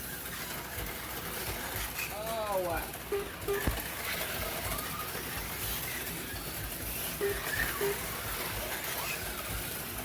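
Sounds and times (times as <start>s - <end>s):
slot car motors buzzing: 0.0s - 10.0s.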